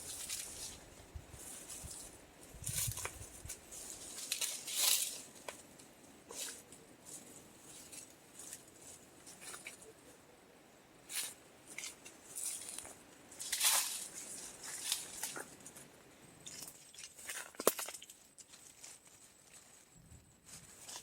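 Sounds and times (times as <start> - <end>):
dry leaves rustling and crackling: 0.0 - 9.9, 11.1 - 21.0.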